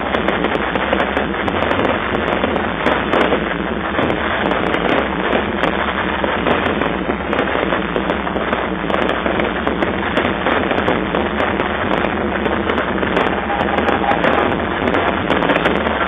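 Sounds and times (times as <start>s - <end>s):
fireworks bursting: 0.0s - 16.0s
fireworks crackling: 0.0s - 16.0s.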